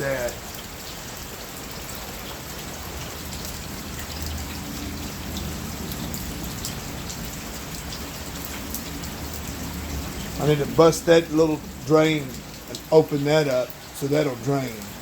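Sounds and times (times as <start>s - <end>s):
individual raindrop ticks: 0.0s - 15.0s
steady rain falling: 0.0s - 15.0s.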